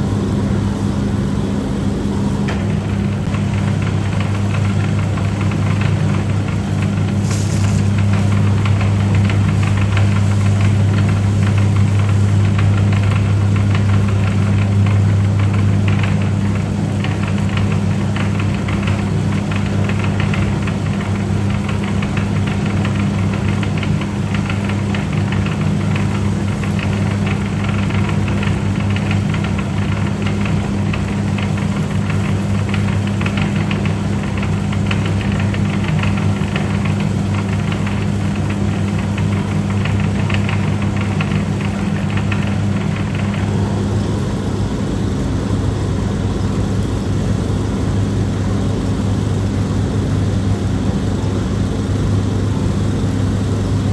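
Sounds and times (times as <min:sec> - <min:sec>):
cutting rollers clattering: 0:00.0 - 0:53.9
machine motor humming: 0:00.0 - 0:53.9.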